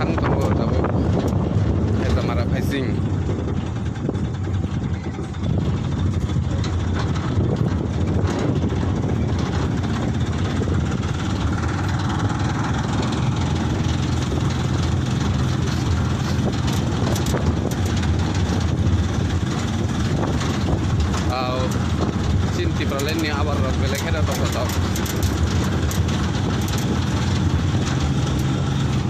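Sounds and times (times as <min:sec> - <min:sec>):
road noise: 0:00.0 - 0:29.0
truck engine drone: 0:00.0 - 0:29.0.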